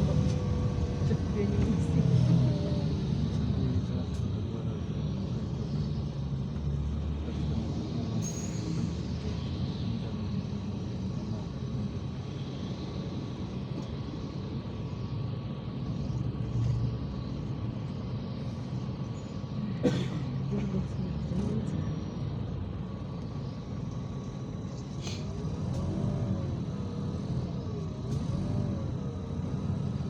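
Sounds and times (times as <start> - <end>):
bus engine drone: 0.0 - 30.0.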